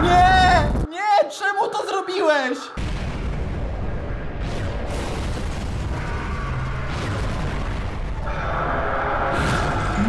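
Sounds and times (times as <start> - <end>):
rumble of explosions and debris: 0.0 - 0.9, 2.6 - 10.0.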